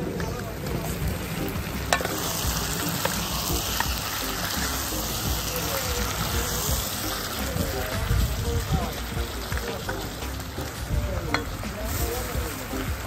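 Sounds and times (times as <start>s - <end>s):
food sizzling in a pan: 0.0s - 13.0s
low street rumble: 0.0s - 13.0s.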